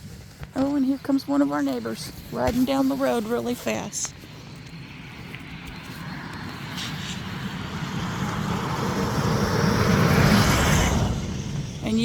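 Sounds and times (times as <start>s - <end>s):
vehicle engine approaching: 0.6s - 12.0s.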